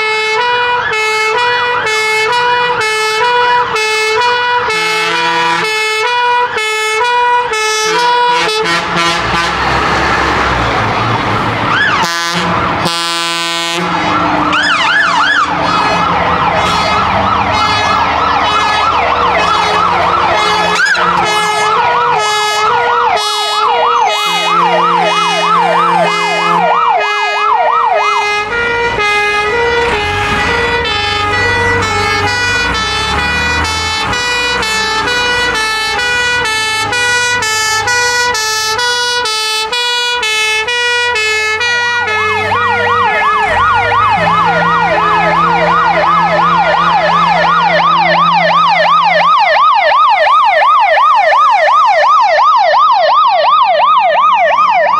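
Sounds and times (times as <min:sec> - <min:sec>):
horn blasts: 0:00.0 - 0:10.6, 0:11.9 - 0:49.5
low rumble of truck engines: 0:00.0 - 0:54.9
siren sweeping up and down: 0:00.0 - 0:54.9
two-tone siren: 0:00.0 - 0:54.9.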